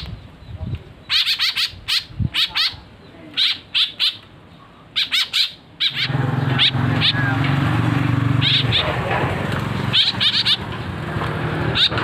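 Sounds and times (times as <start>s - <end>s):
young birds begging calls: 0.0s - 12.0s.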